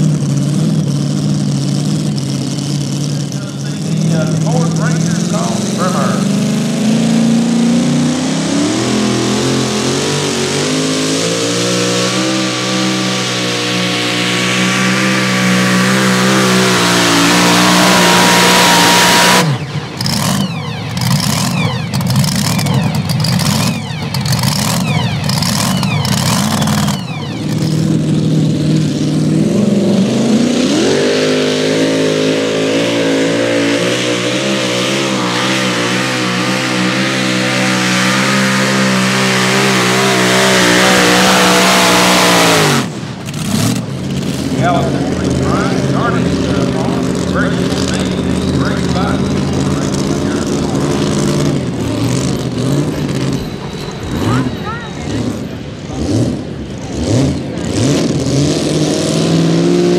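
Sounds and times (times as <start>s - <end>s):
second truck engine revving: 0.0s - 59.9s
supercharged truck engine under load: 0.0s - 59.9s.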